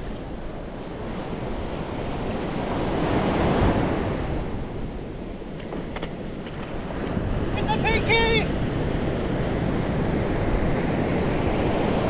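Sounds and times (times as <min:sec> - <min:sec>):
wind buffeting microphone: 0:00.0 - 0:12.0
surf breaking on beach: 0:00.9 - 0:12.0.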